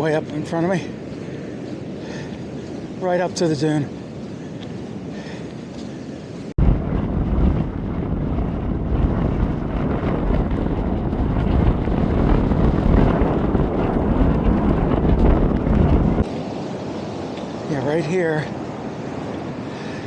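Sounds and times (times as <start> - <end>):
strong wind buffeting microphone: 0.0 - 17.7
surf washing up beach: 0.0 - 20.0.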